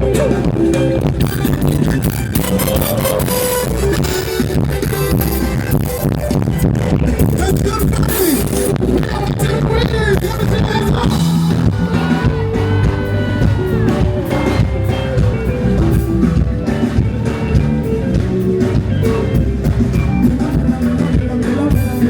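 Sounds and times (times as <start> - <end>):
person singing: 0.0 - 4.1, 7.4 - 22.0
loud music with beat and guitar: 0.0 - 22.0.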